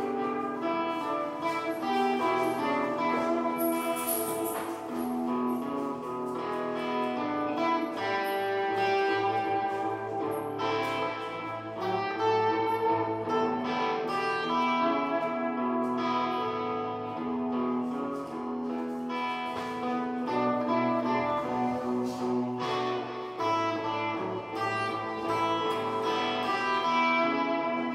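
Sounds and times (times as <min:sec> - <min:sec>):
blues guitar playing: 0:00.0 - 0:27.9.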